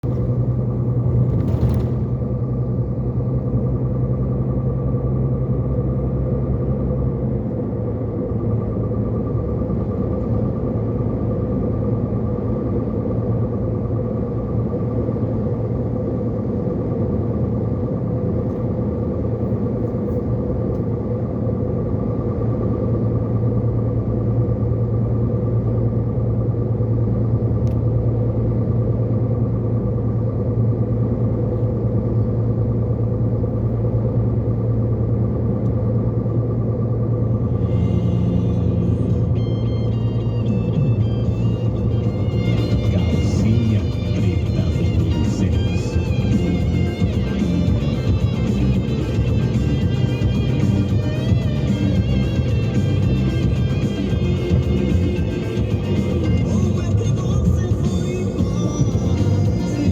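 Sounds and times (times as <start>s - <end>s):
high whine: 0.0s - 59.9s
truck diesel engine drone: 0.0s - 59.9s.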